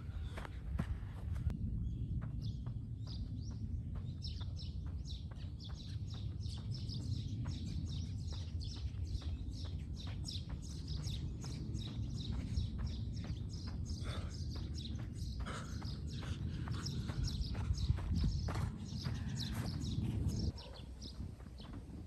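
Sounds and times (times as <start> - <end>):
low background rumble: 0.0 - 22.0
small birds chirping: 1.8 - 22.0.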